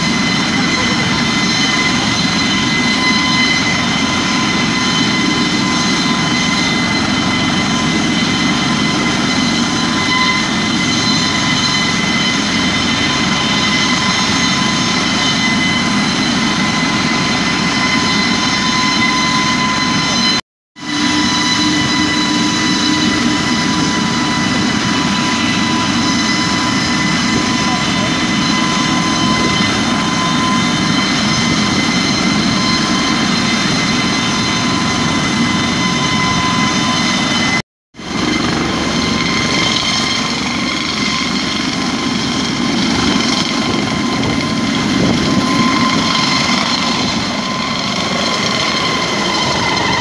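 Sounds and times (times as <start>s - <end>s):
helicopter turbine whine and rotor: 0.0s - 50.0s.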